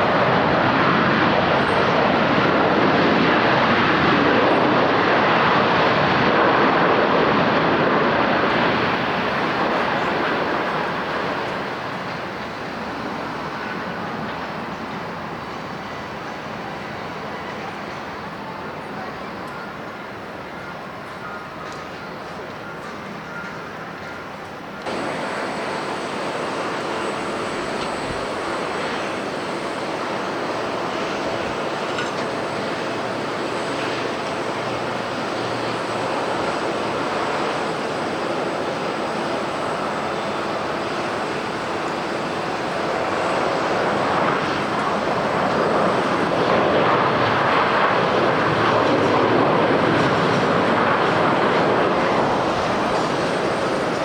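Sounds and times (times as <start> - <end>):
jet engine rushing: 0.0 - 18.8, 24.7 - 54.0.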